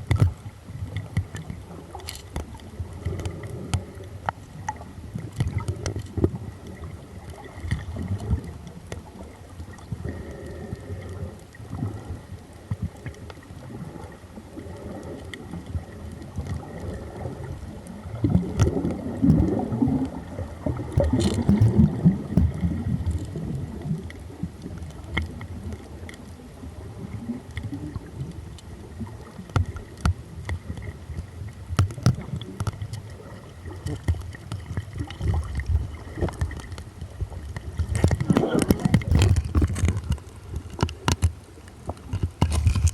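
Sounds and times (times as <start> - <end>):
muffled water sloshing and gurgling: 0.0 - 42.9.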